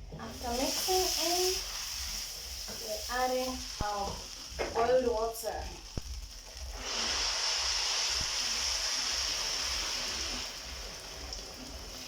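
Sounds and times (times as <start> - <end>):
water poured into hot pan: 0.2 - 12.0.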